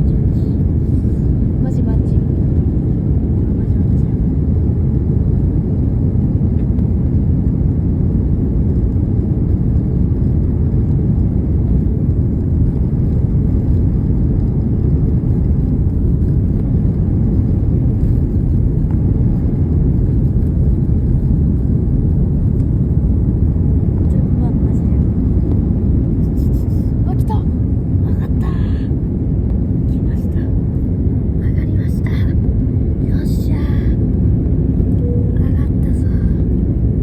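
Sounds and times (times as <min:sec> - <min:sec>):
airliner engines rumbling: 0:00.0 - 0:37.0.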